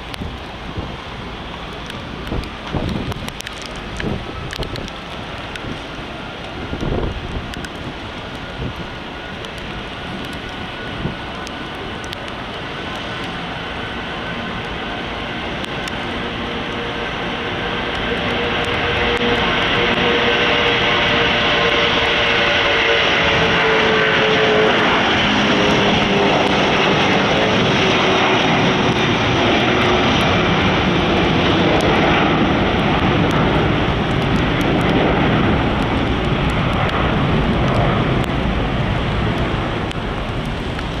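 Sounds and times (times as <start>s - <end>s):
jet engines roaring on take-off: 0.0s - 41.0s.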